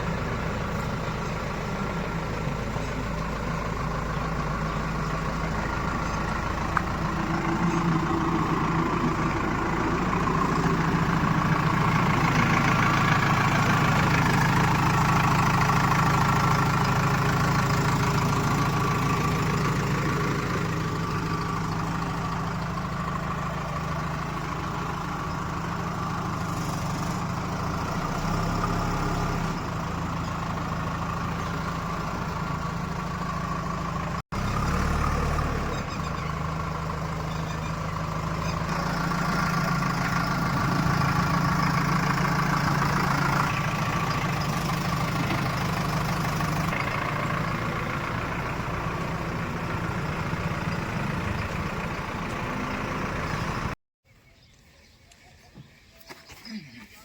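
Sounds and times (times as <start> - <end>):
heavy machinery diesel engines: 0.0 - 53.8.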